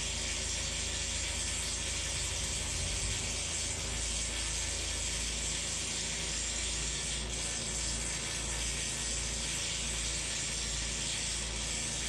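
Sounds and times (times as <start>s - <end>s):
arc welding crackle: 0.0s - 12.0s.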